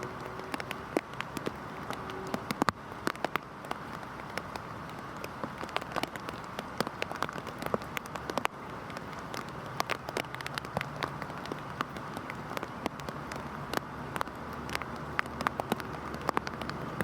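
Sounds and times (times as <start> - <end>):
heavy rain on hard surface: 0.0 - 17.0.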